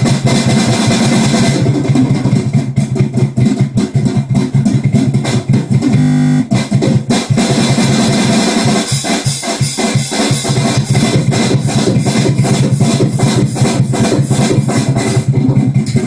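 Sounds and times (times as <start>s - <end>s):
fast drum hits: 0.0s - 16.0s.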